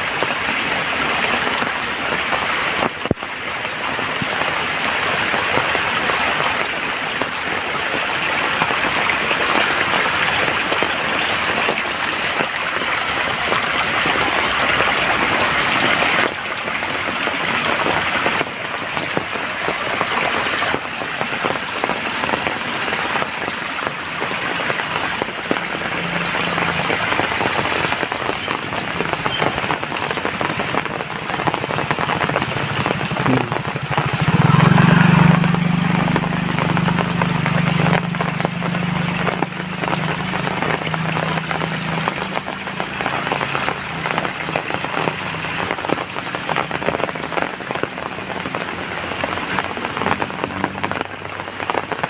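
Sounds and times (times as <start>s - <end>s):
heavy rain: 0.0s - 52.0s
low engine hum: 4.0s - 52.0s.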